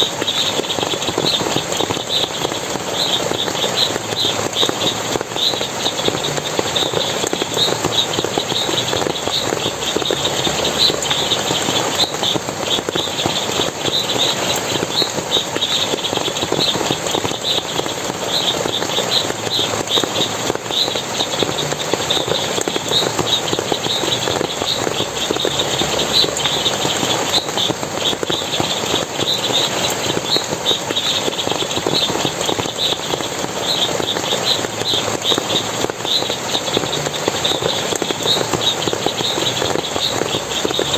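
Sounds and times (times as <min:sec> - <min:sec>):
water splashing and running: 0:00.0 - 0:40.9.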